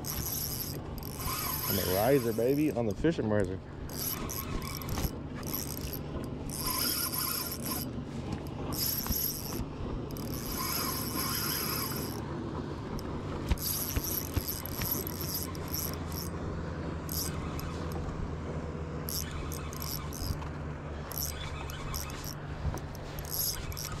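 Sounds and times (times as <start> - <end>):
fishing reel whirring and clicking: 0.0 - 3.2, 3.8 - 12.2, 12.9 - 16.4, 17.0 - 18.2, 19.1 - 24.0
boat motor hum: 0.0 - 24.0.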